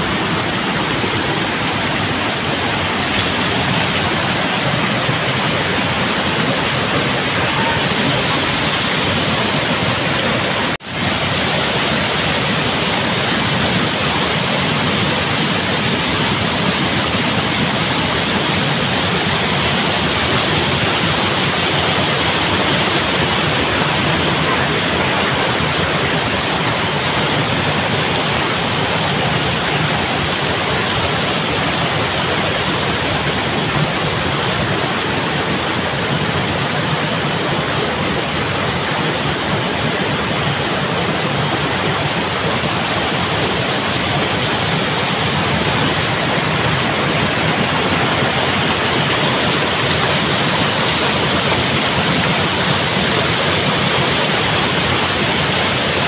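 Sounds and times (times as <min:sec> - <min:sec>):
stream cascading over boulders: 0:00.0 - 0:56.0
waterfall rushing: 0:00.0 - 0:56.0.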